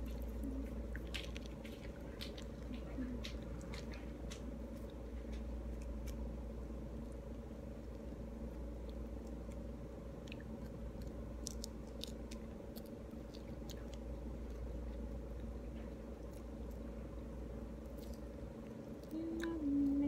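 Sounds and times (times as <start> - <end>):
chewing: 0.0 - 6.4, 7.0 - 20.0
fruit membrane tearing: 0.0 - 19.2
steady low hum: 0.0 - 20.0.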